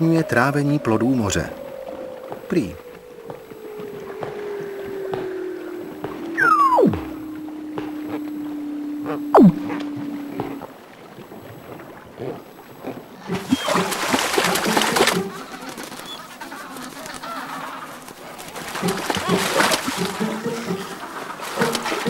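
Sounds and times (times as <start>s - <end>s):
penguins croaking calls: 0.0s - 22.0s
water splashing and sloshing: 0.0s - 22.0s.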